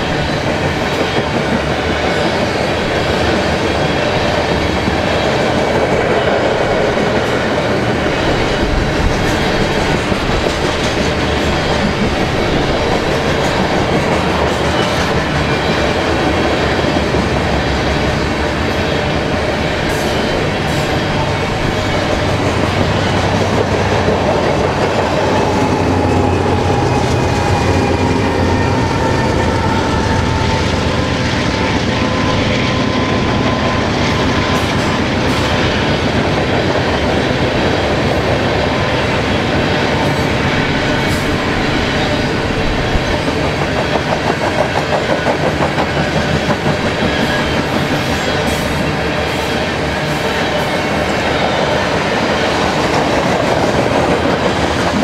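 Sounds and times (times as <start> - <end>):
diesel locomotive drone: 0.0 - 55.0
train wheels rattling over rail joints: 0.0 - 55.0.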